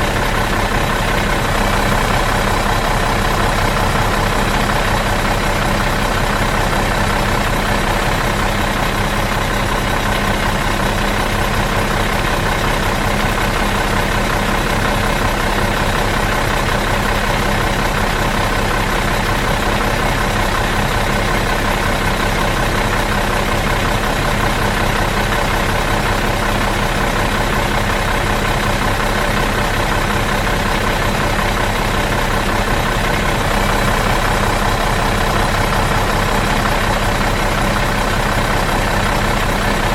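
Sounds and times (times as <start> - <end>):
bus engine idling: 0.0 - 39.9.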